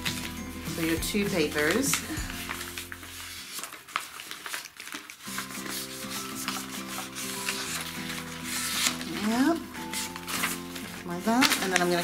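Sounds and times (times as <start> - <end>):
soft background music: 0.0 - 4.4, 5.2 - 12.0
paper rustling as folded: 0.0 - 12.0.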